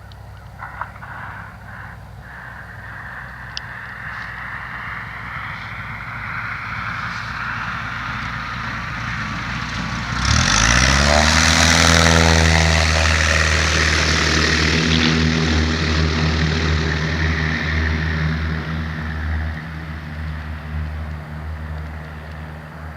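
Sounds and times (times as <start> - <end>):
propeller plane engine revving up: 0.0 - 22.9.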